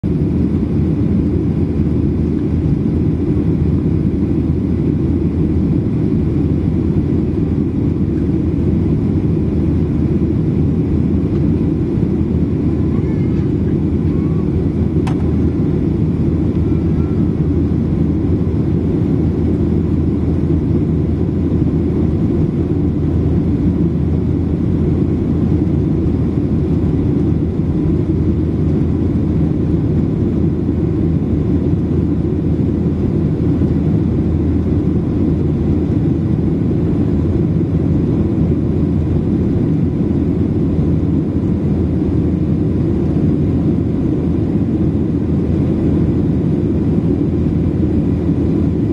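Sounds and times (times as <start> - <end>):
airplane engine and airflow rumble: 0.0 - 48.9.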